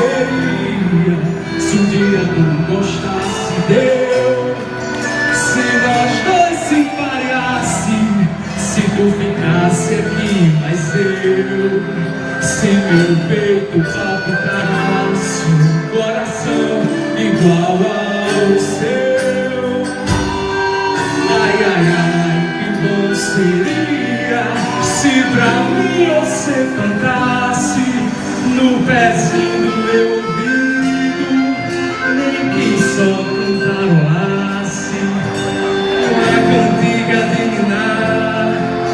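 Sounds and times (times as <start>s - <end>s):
song with percussion beat: 0.0s - 38.9s.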